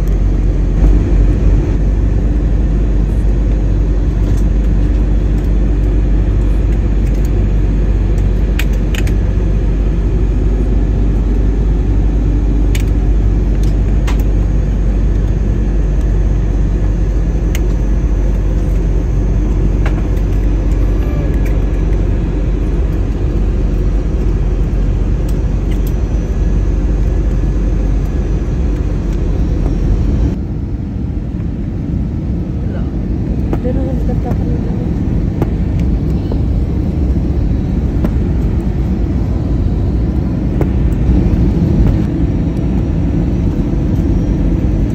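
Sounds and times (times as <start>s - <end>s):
airliner engine rumble: 0.0s - 44.9s.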